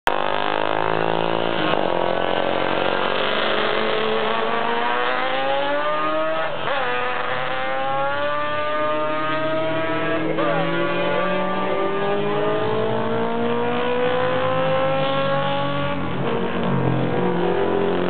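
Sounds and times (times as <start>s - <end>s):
racing motorcycles accelerating past: 0.1s - 18.0s.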